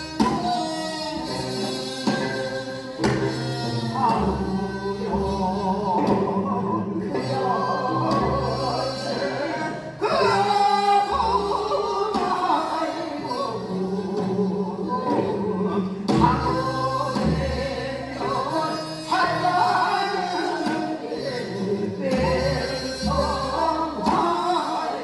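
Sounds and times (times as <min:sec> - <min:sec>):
instrumental accompaniment: 0:00.0 - 0:25.0
woman and man singing duet: 0:00.0 - 0:25.0.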